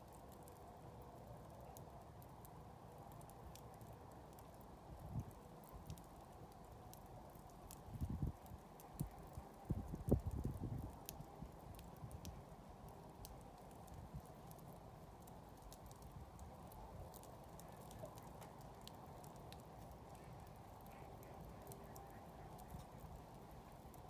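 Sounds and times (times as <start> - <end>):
campfire burning: 0.0 - 24.0
fire crackles and pops: 0.0 - 24.0.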